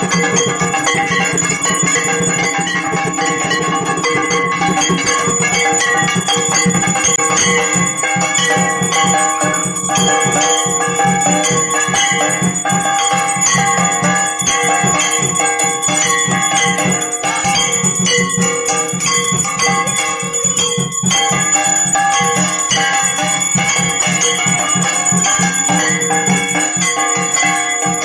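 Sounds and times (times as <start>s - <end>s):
hand bell ringing: 0.0s - 28.0s.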